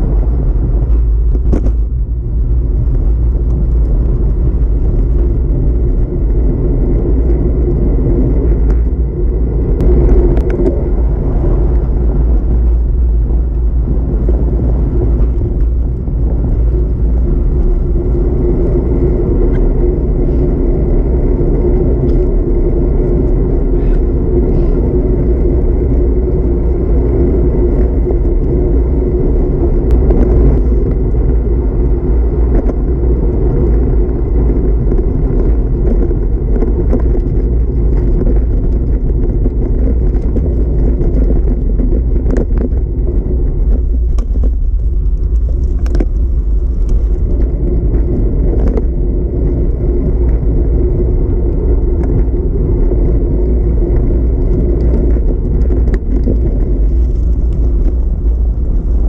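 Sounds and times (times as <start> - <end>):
faint clicks from road bumps: 0.0 - 59.0
tyres on rough asphalt: 0.0 - 59.0
wind rushing on microphone: 0.0 - 59.0.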